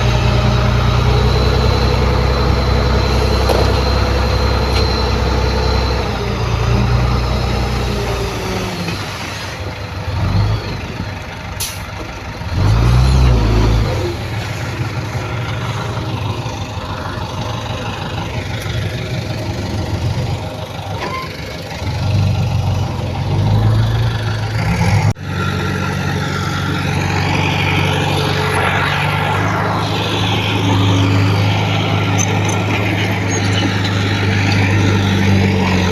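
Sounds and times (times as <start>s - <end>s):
heavy machinery diesel engines: 0.0s - 35.9s
steady engine sound: 0.0s - 35.9s.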